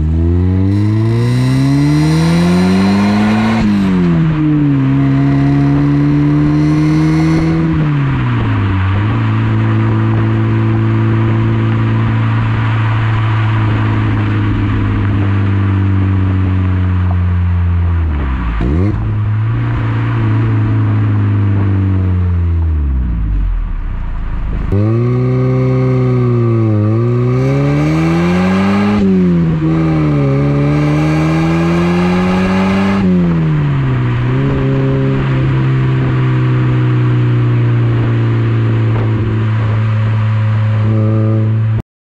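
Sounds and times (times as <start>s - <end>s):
car exhaust shifting through gears: 0.0s - 41.8s.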